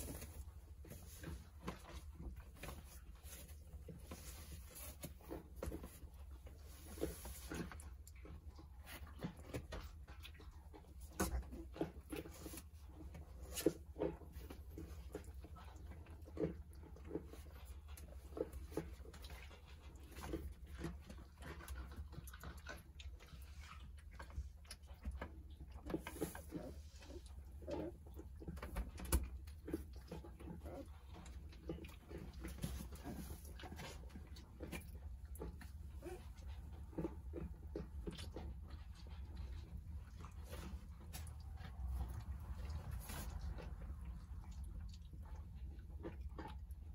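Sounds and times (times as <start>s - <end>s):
faint puppy sounds: 0.0s - 46.9s
paws scratching on cardboard: 0.0s - 46.9s.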